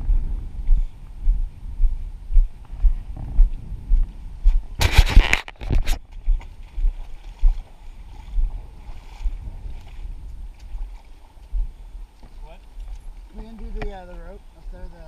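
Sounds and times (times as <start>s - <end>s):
wading in shallow water: 0.0s - 15.0s
footsteps crunching over cobbles: 0.1s - 13.7s.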